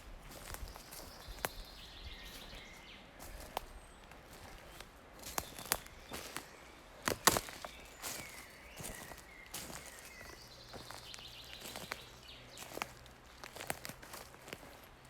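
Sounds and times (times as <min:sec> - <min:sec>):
footsteps crunching on forest floor: 0:00.0 - 0:15.0
faint bird calls: 0:00.3 - 0:13.7.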